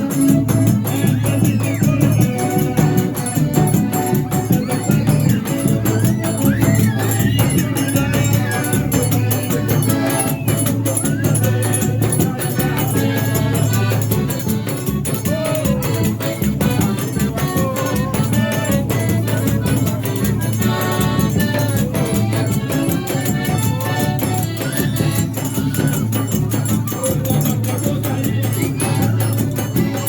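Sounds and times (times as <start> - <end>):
forro music with fast percussion: 0.0 - 30.0.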